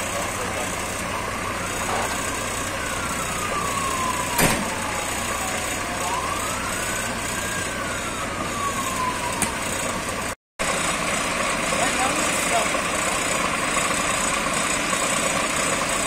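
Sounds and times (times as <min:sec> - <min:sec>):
emergency siren wailing: 0:00.0 - 0:16.0
fire truck engine running: 0:00.0 - 0:16.0.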